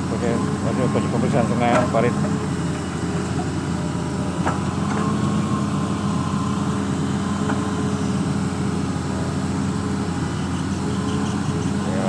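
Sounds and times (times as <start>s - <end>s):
machine engine humming: 0.0s - 12.0s.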